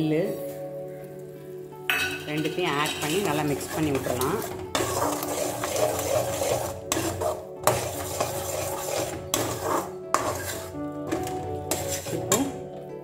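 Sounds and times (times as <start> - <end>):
background music: 0.0 - 13.0
metal spatula scraping pan: 1.9 - 12.6.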